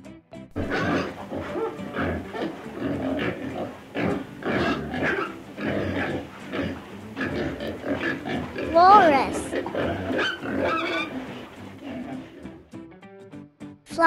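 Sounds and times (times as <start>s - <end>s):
walrus calls: 0.6s - 12.8s.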